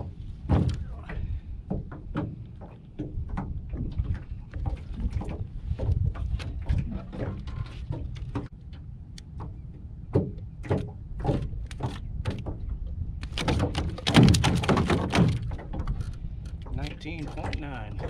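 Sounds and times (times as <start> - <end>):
knocks and thumps in metal boat: 0.0 - 8.5, 9.4 - 18.0
wind rumble on microphone: 0.0 - 18.0.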